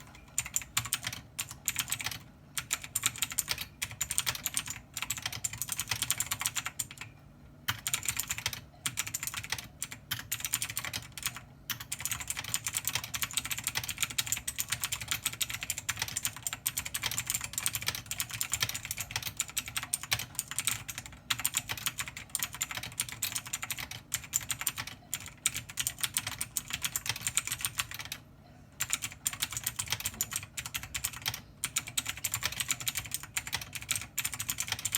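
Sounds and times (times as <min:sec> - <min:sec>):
fast keyboard typing: 0:00.0 - 0:28.2, 0:28.8 - 0:34.9.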